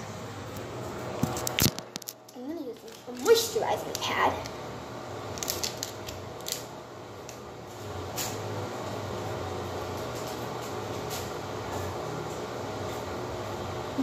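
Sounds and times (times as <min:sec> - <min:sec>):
ventilation hum: 0:00.0 - 0:14.0.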